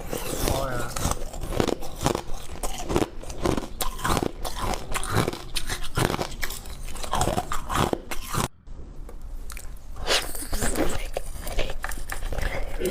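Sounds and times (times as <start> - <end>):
chewing crunchy ice: 0.0 - 8.5, 9.5 - 12.9.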